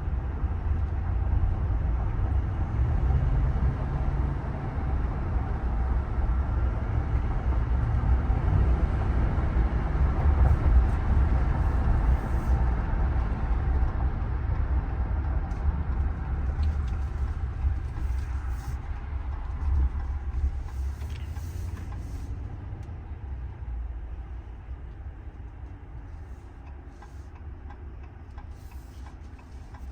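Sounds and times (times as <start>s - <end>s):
engine and road rumble: 0.0s - 29.9s.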